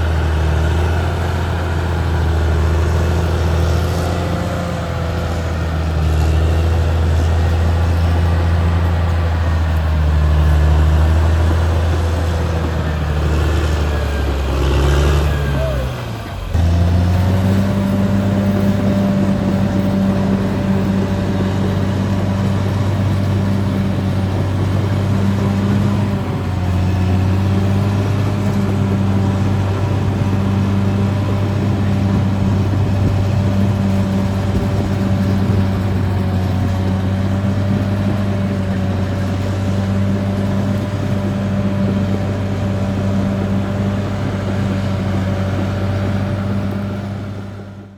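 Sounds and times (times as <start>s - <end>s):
bulldozer diesel engine droning: 0.0s - 47.9s.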